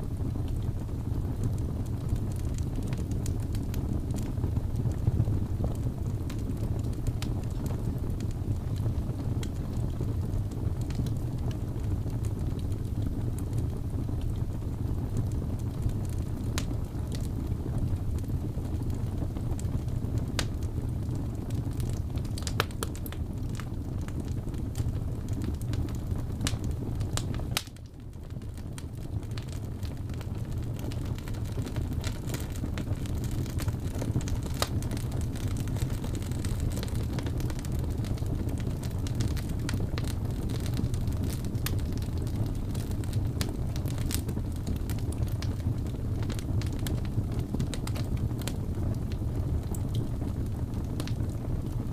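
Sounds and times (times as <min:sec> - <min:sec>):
rumble of fire flames: 0:00.0 - 0:51.9
wood crackling and popping: 0:00.0 - 0:51.9.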